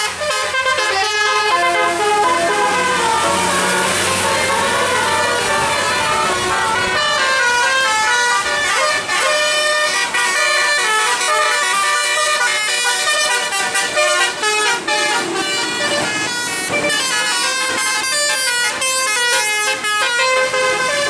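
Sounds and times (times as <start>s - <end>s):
musical air horn tune: 0.0s - 21.0s.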